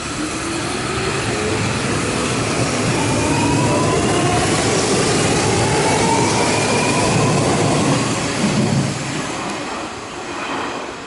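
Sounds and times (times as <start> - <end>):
train wheel and running noise: 0.0 - 11.0.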